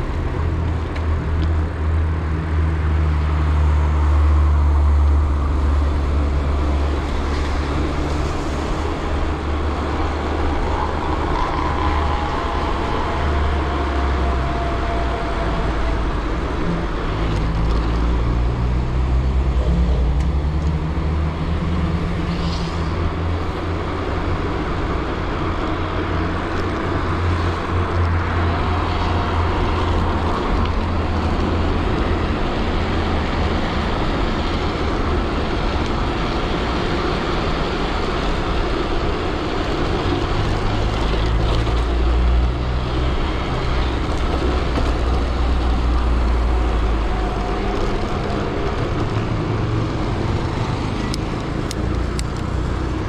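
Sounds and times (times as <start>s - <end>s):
road traffic rumble: 0.0s - 53.0s
vehicles passing: 0.0s - 53.0s.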